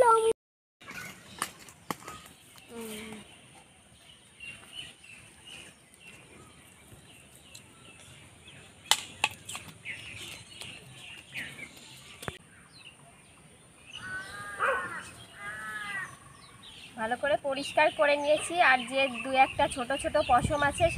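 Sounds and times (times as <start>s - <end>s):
small birds chirping: 0.8s - 20.9s.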